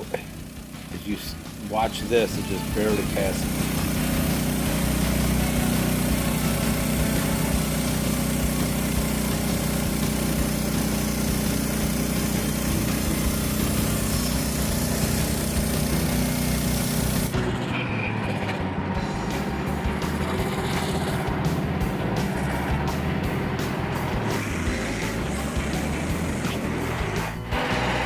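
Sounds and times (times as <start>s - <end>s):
band blade cutting log: 0.0s - 17.5s, 20.0s - 21.3s, 24.1s - 28.0s
sawmill gasoline engine running: 0.0s - 28.0s.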